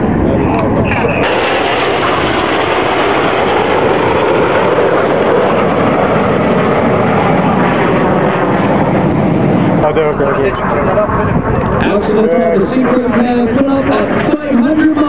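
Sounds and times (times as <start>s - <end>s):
jets flying by roaring: 0.0s - 15.0s.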